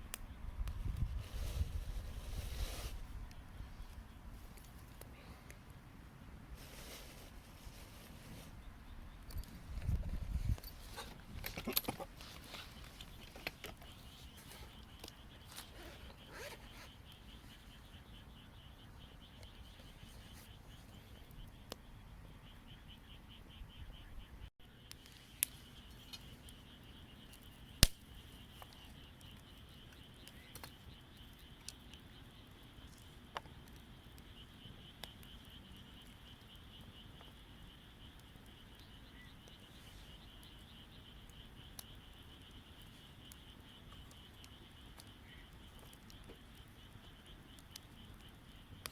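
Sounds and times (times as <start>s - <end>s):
campfire crackling: 0.1s - 23.0s, 24.8s - 48.9s.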